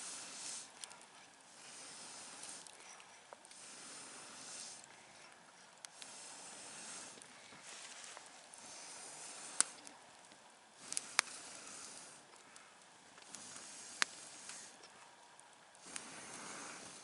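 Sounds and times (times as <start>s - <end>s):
campfire hissing: 0.0s - 17.0s
fire crackling pops: 0.0s - 17.0s.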